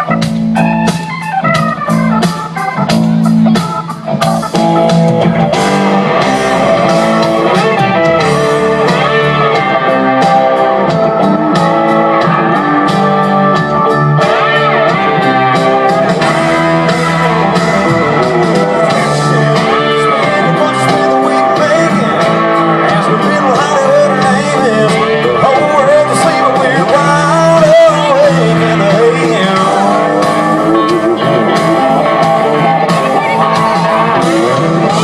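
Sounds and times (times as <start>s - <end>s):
country-rock band playing: 0.0s - 35.0s
guitar lead: 0.0s - 35.0s
steady drum beat: 0.0s - 35.0s.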